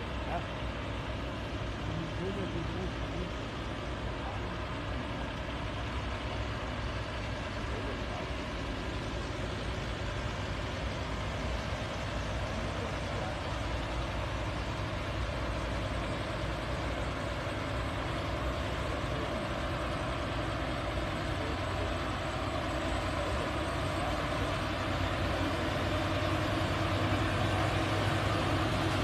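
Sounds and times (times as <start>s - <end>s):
diesel truck engines rumbling: 0.0s - 29.0s.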